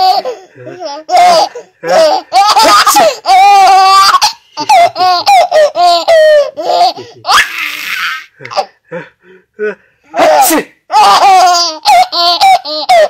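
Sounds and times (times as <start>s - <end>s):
baby laughing: 0.0s - 8.8s, 10.2s - 13.0s.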